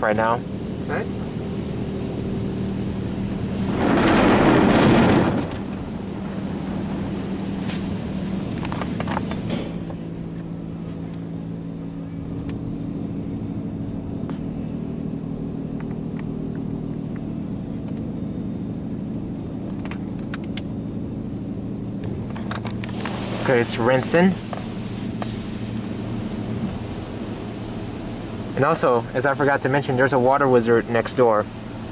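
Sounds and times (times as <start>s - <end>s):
car wash brush motors humming: 0.0s - 31.9s.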